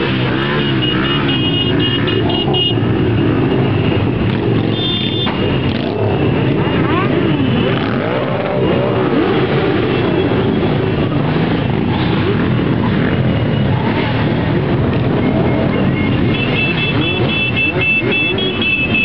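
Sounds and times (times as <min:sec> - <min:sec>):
many motorcycle engines revving: 0:00.0 - 0:19.0.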